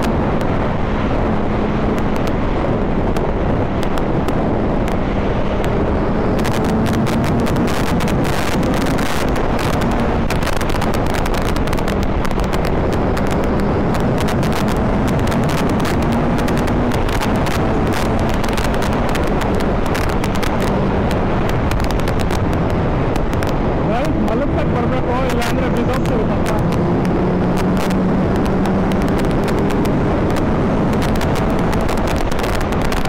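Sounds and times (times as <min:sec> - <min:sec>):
motorcycle engine running: 0:00.0 - 0:33.0
wind buffeting microphone: 0:00.0 - 0:33.0.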